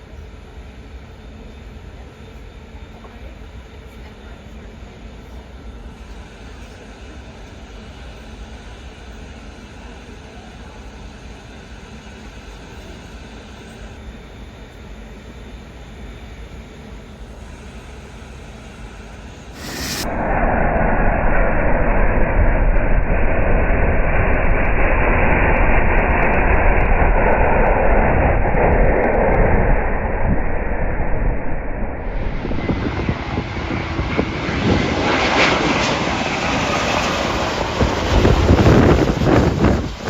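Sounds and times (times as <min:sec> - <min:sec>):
jet airliner engine roar: 0:00.0 - 0:40.0.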